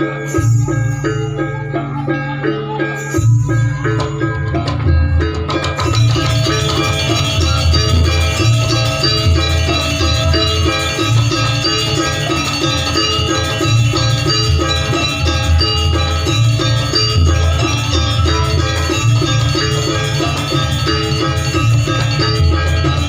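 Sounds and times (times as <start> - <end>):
drums: 0.0 - 23.0
metallophones ringing: 0.0 - 23.0
heavy bass: 0.3 - 23.0.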